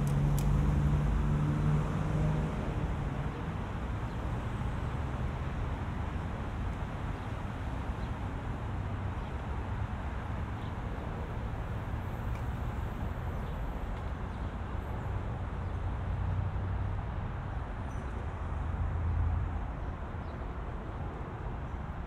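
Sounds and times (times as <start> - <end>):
city traffic rumble: 0.0 - 22.0
vehicles passing: 0.0 - 22.0.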